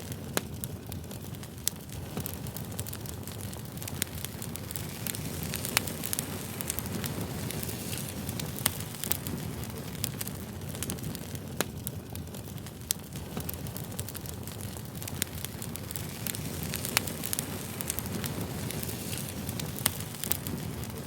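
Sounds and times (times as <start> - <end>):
burning wood rushing: 0.0 - 21.0
campfire pops: 0.0 - 21.0.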